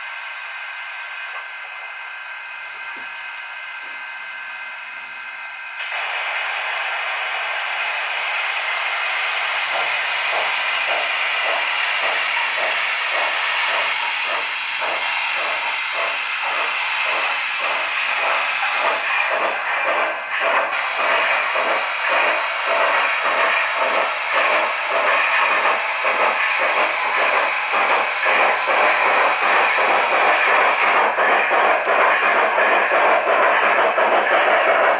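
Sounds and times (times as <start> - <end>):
steam exhaust chuffs: 5.6 - 34.9
steady steam hiss: 5.8 - 34.9.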